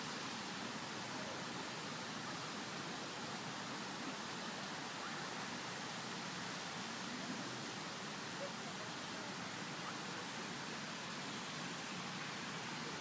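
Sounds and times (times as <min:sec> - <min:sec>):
fountain water rushing: 0:00.0 - 0:13.0.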